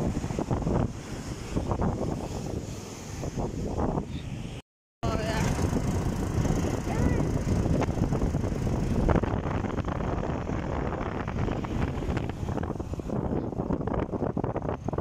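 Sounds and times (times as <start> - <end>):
vehicle rumble: 0.0 - 15.0
wind buffeting microphone: 0.0 - 15.0.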